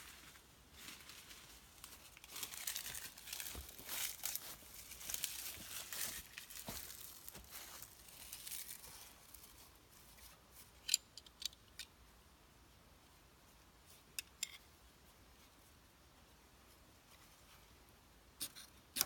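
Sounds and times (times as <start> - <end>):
soft rustling and crinkling: 0.0 - 10.9, 13.0 - 17.9.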